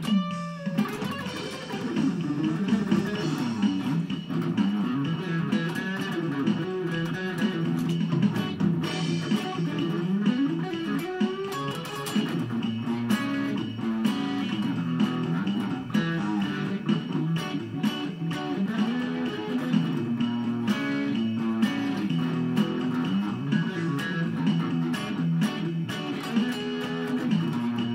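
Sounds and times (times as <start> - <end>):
guitar plucking quick notes: 0.0 - 27.9.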